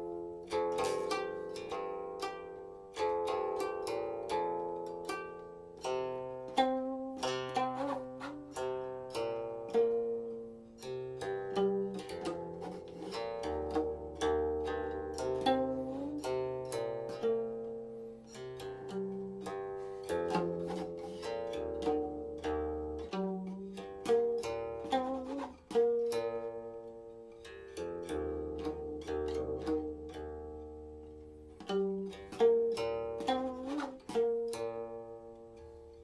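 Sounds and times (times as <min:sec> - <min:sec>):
guqin plucked notes: 0:00.0 - 0:36.0.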